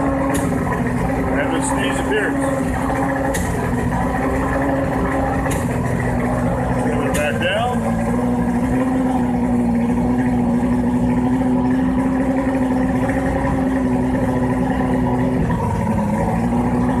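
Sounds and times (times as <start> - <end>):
outboard engine droning: 0.0 - 17.0.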